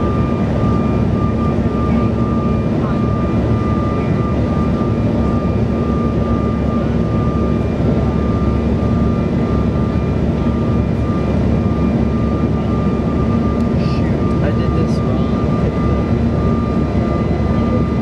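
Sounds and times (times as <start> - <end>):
airliner cabin rumble: 0.0 - 18.0
jet engine whine: 0.0 - 18.0.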